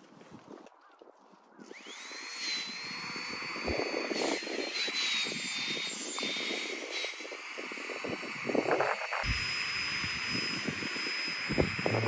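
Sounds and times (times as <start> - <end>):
electric air pump whining: 1.7 - 12.0.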